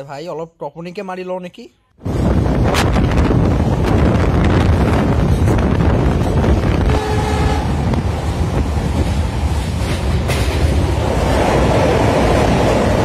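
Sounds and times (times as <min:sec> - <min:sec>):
rushing air: 0:02.0 - 0:13.0
train wheels rumbling on track: 0:02.1 - 0:13.0.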